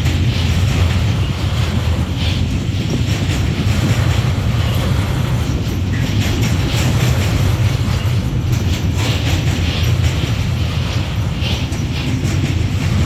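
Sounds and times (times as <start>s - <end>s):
steel wheels rumbling on rails: 0.0s - 13.0s.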